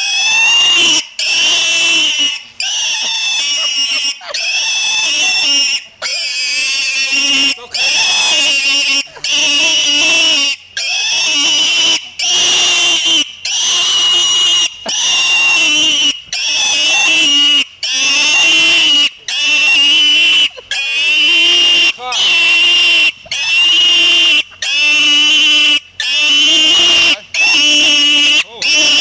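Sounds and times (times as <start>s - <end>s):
pig squealing: 0.0s - 29.0s.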